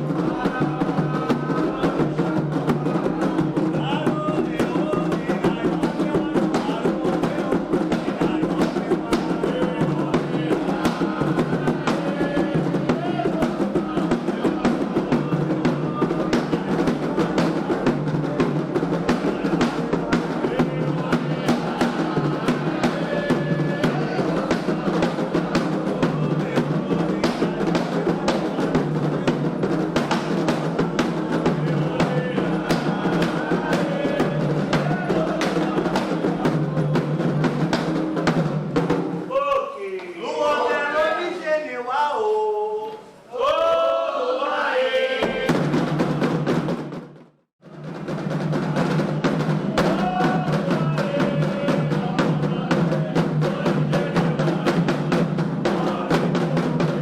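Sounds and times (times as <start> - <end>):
hand drums playing fast rhythm: 0.0 - 39.3, 45.2 - 57.0.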